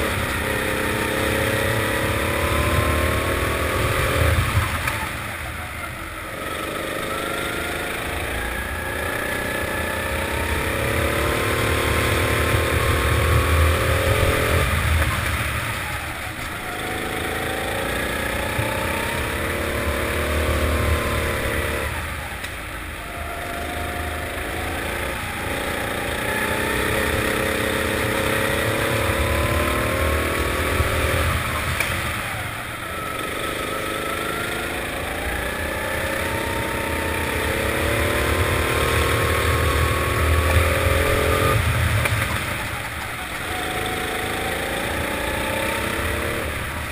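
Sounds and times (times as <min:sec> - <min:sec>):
kart engine revving: 0:00.0 - 0:46.9.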